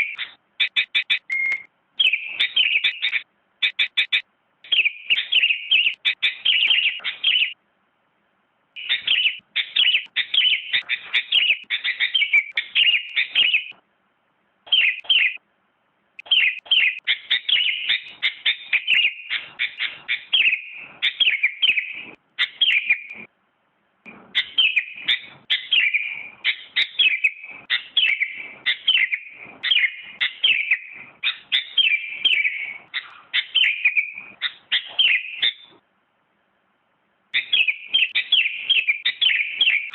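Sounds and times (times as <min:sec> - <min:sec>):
bulbul rapid chirping song: 0:00.0 - 0:07.6, 0:08.8 - 0:13.8, 0:14.7 - 0:15.4, 0:16.2 - 0:23.3, 0:24.1 - 0:35.8, 0:37.3 - 0:39.9.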